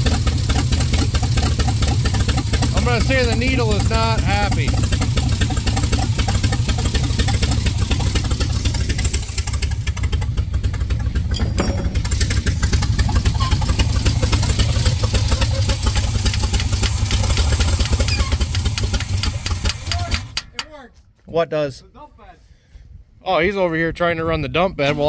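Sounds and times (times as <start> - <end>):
truck engine running: 0.0 - 20.4.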